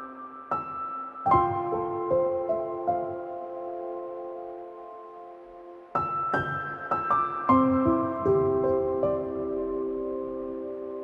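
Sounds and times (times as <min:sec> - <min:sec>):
gentle music with struck notes: 0:00.0 - 0:11.0.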